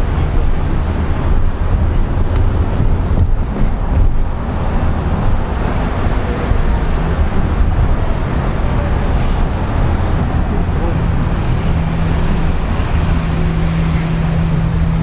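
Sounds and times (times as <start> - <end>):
car road noise: 0.0 - 15.0
wind rumbling on microphone: 0.0 - 15.0.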